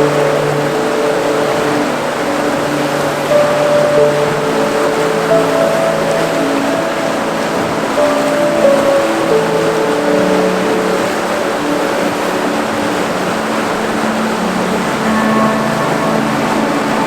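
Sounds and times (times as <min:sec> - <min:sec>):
soft music of held notes: 0:00.0 - 0:17.0
waterfall rushing: 0:00.0 - 0:17.0.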